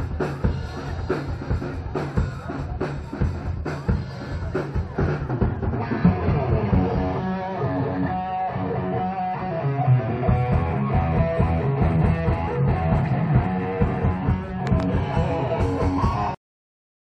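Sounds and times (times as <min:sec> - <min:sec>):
guitar-led rock music: 0:00.0 - 0:16.4.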